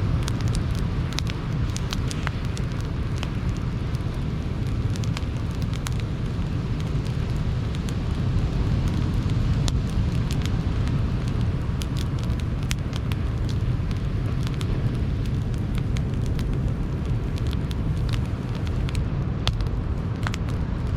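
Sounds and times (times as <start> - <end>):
campfire crackling and popping: 0.0 - 20.9.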